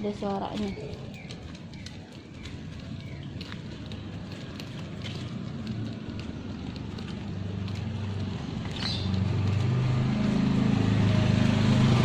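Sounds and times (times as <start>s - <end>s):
engine drone: 1.2s - 12.0s.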